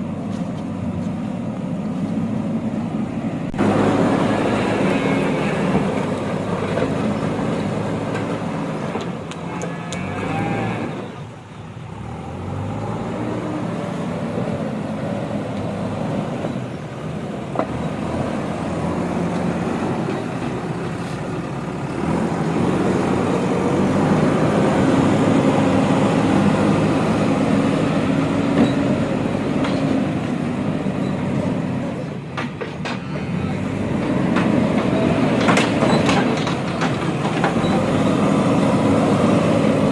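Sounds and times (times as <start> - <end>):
diesel engine working: 0.0 - 39.9.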